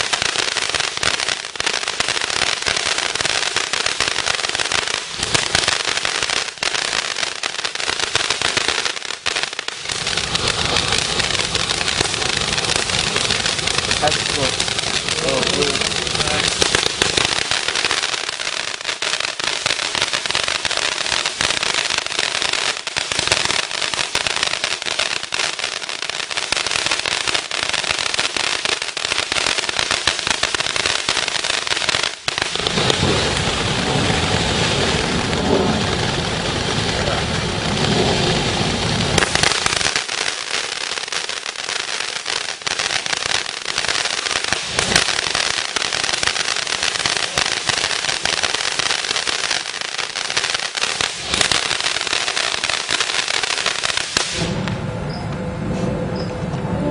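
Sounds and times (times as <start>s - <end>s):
fountain firework crackling: 0.0s - 54.9s.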